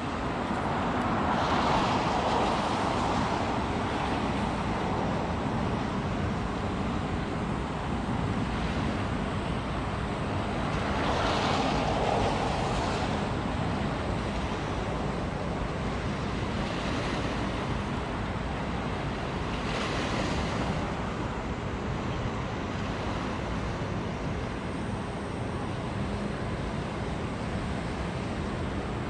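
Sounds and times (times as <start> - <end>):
water waves washing: 0.0 - 29.0.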